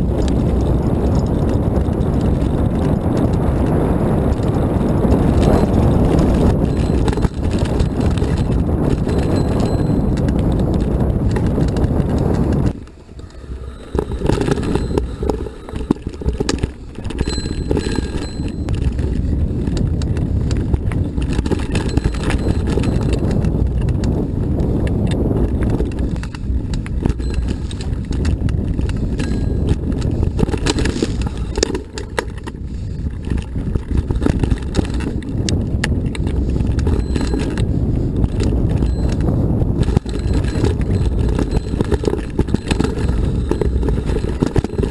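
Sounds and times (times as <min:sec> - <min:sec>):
bike rattling over rough trail: 0:00.0 - 0:44.9
wind rumble on microphone: 0:00.0 - 0:44.9.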